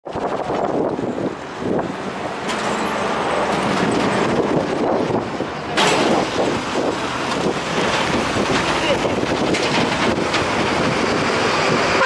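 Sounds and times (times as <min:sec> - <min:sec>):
vehicles rumbling over rails: 0:00.1 - 0:12.0.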